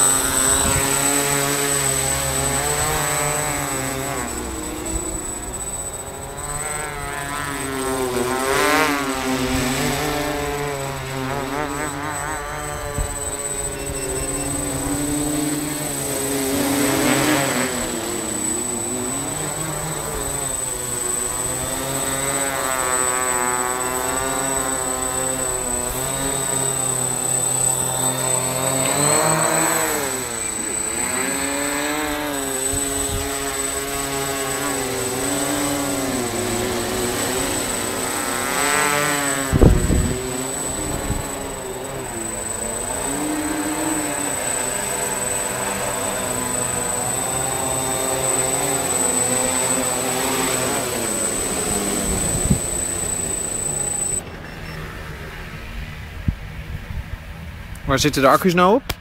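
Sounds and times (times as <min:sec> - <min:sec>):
quadcopter propellers whirring: 0:00.0 - 0:59.0.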